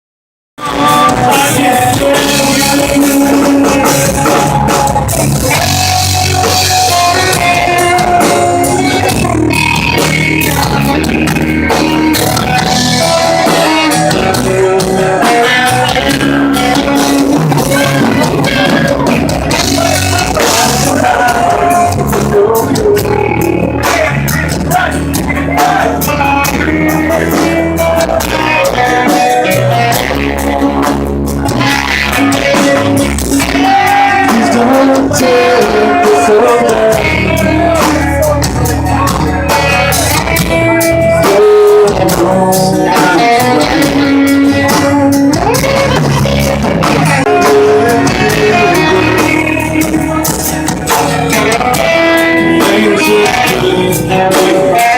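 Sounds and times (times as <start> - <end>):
rock music: 0.6 - 54.9.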